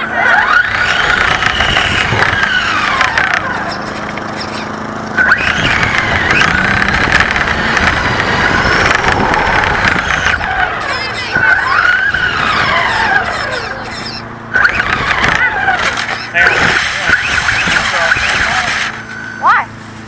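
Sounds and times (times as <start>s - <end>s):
rc car motor whining: 0.0s - 19.7s.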